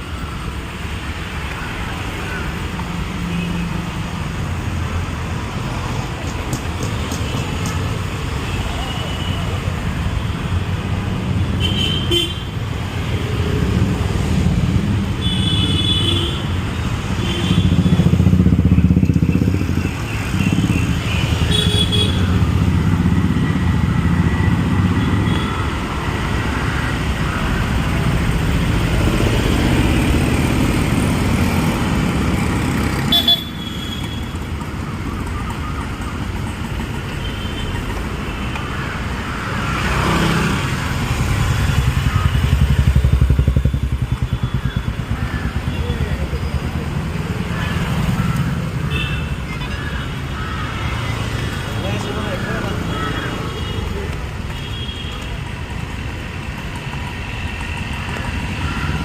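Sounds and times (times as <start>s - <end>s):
motorcycles and cars passing: 0.0s - 59.0s.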